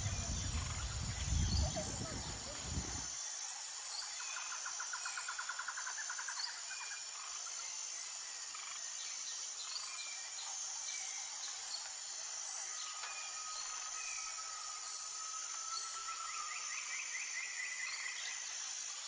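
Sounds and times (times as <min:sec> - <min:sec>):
insect drone: 0:00.0 - 0:19.0.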